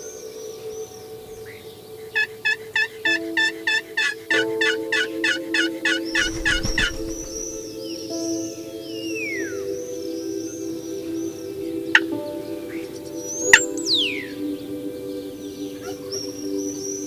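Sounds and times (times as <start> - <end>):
soft music pad: 0.0 - 17.0.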